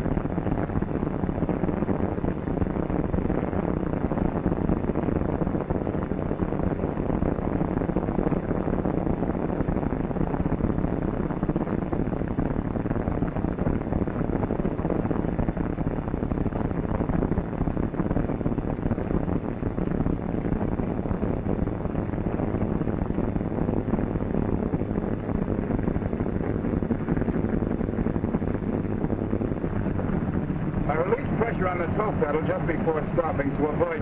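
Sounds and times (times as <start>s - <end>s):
radial aircraft engines droning: 0.0s - 34.0s.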